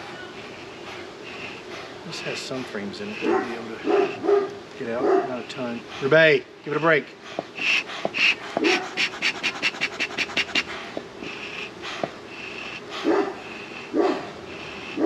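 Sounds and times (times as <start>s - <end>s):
dog panting fast: 0.0s - 15.0s.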